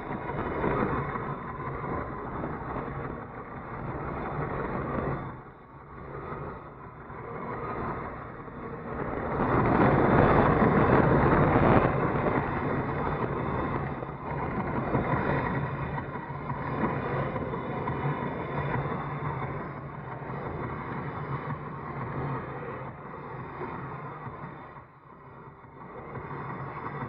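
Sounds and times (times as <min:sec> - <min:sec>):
road and wind noise: 0:00.0 - 0:26.8.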